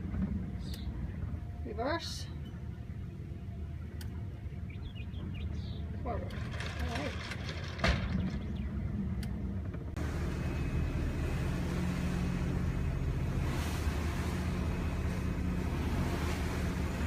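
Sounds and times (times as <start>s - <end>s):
low engine hum: 0.0s - 17.0s
marine diesel engines droning: 0.0s - 17.0s.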